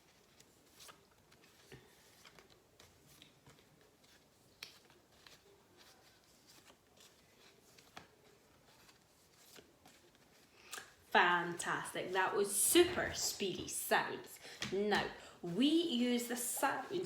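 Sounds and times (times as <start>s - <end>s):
paper flashcards rustling: 0.0s - 17.0s.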